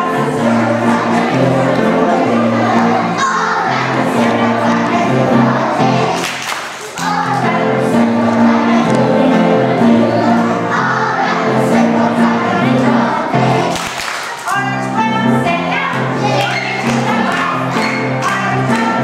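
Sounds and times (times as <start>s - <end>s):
children singing together: 0.0s - 14.4s, 15.3s - 19.0s
upright piano: 0.0s - 19.0s.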